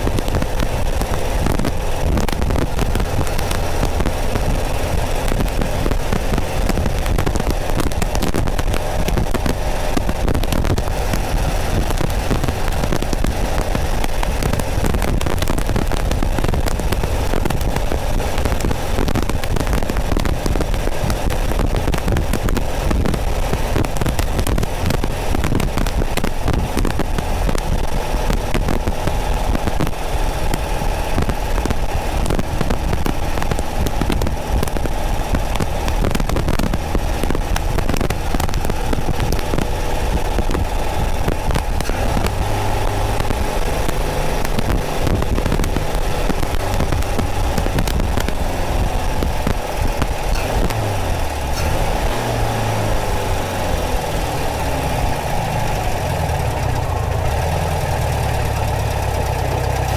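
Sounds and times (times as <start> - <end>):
car engine running: 0.0 - 59.9
crackling static: 0.0 - 59.9
wind noise: 0.0 - 59.9.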